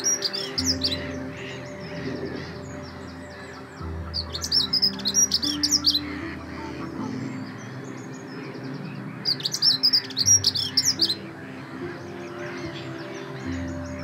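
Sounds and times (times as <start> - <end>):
bird warbling song: 0.0 - 14.0.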